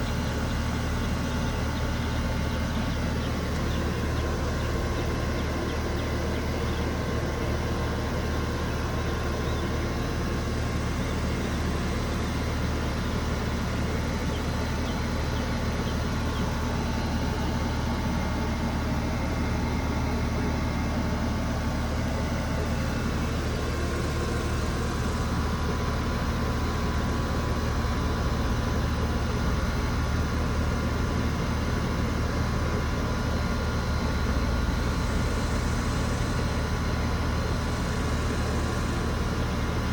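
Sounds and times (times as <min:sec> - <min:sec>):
air conditioner condenser humming: 0:00.0 - 0:39.9.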